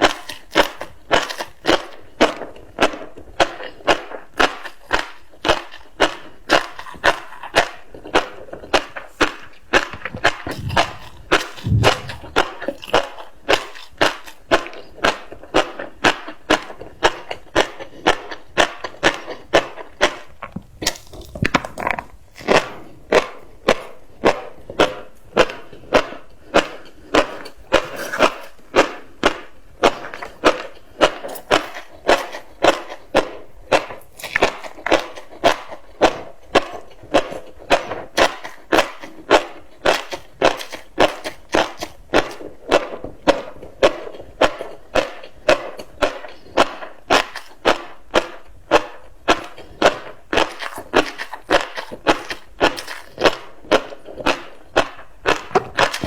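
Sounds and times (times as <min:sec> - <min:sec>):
mouth chewing crunchy fish roe: 0:00.0 - 0:56.0.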